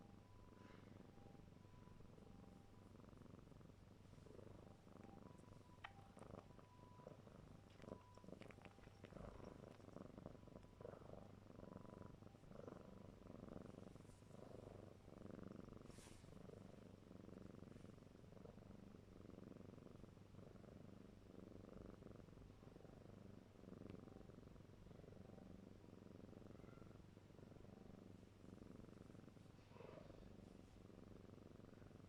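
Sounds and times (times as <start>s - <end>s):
kitten purring: 0.0s - 32.0s.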